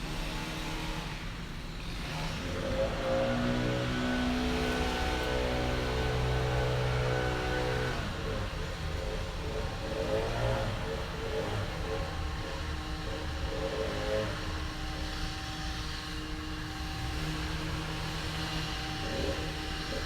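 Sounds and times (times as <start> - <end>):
chainsaw engine revving: 0.1 - 20.0.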